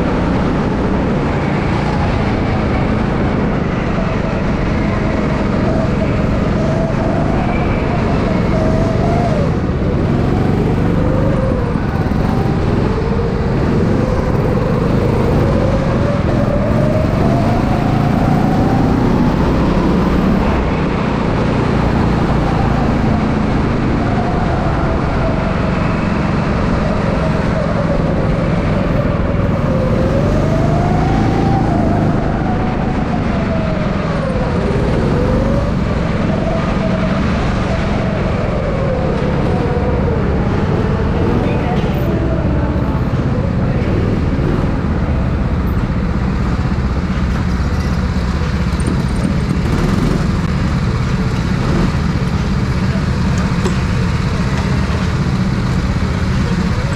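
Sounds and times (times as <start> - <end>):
go-kart engine running hard: 0.0 - 56.9.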